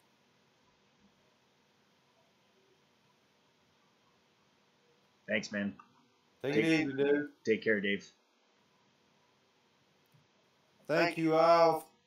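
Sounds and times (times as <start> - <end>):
faint audio hiss: 0.0 - 12.0.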